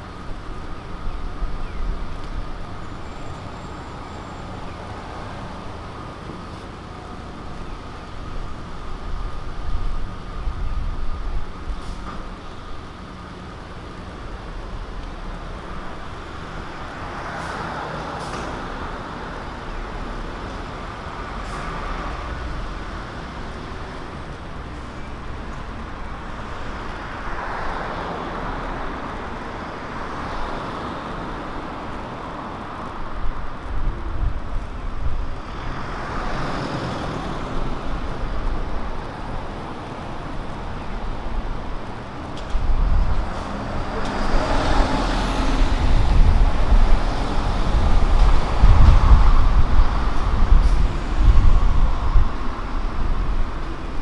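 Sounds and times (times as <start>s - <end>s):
cars and buses passing: 0.0s - 54.0s
steady traffic hum: 0.0s - 54.0s.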